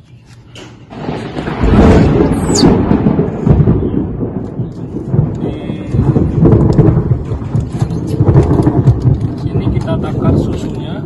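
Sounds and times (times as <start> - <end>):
thunder rumbling: 0.9 - 11.0.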